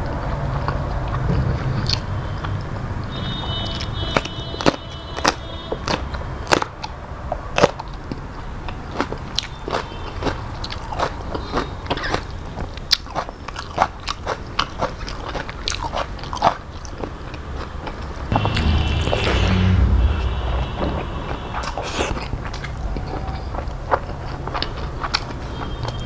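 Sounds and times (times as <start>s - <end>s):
crunchy chewing of chili pepper: 0.0s - 18.3s, 21.8s - 26.0s.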